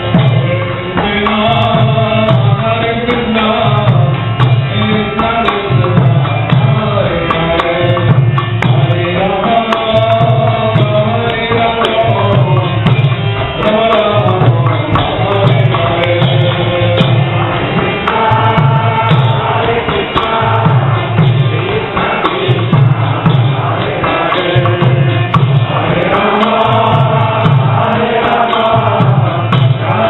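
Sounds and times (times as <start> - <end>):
group singing a chant: 0.0 - 30.0
steady drum beat: 0.0 - 30.0.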